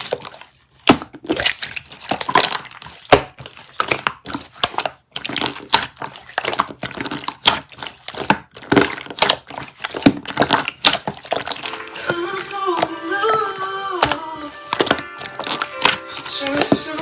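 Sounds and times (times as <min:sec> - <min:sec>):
slime squished by hand: 0:00.0 - 0:17.0.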